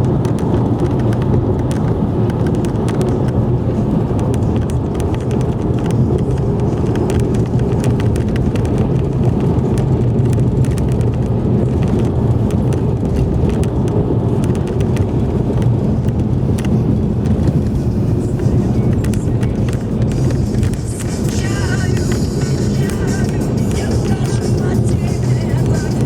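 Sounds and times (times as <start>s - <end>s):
car engine and tyre rumble: 0.0s - 26.0s
small clicks and rattles: 0.0s - 26.0s.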